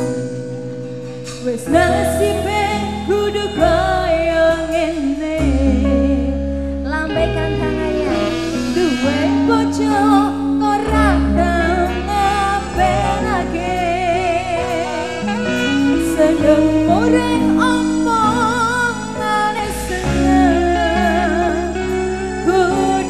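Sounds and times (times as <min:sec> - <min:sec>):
live reggae band music: 0:00.0 - 0:23.0.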